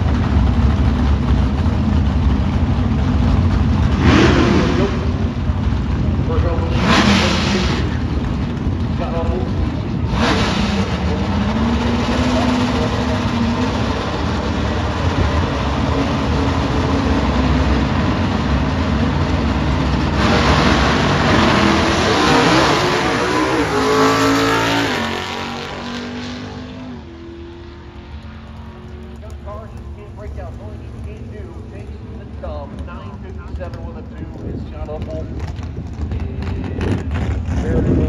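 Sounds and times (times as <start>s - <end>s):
race car engines at full throttle: 0.0s - 38.0s.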